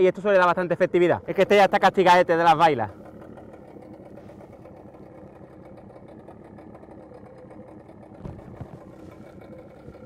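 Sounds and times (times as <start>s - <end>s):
engine hum: 0.0s - 10.0s.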